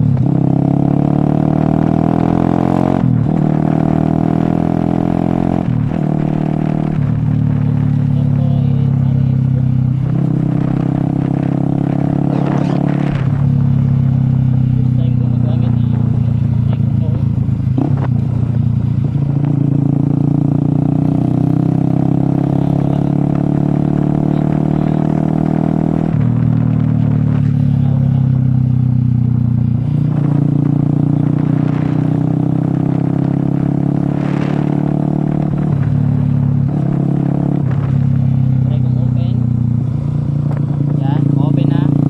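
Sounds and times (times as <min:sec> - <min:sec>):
vehicle engine running: 0:01.6 - 0:42.0.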